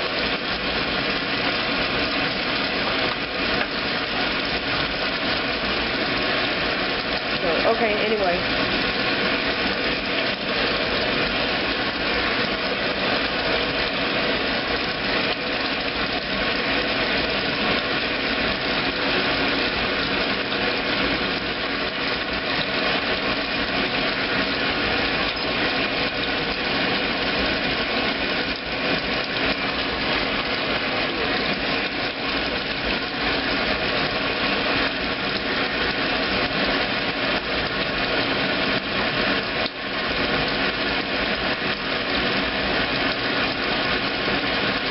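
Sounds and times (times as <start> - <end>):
washing machine motor hum: 0.0 - 44.9.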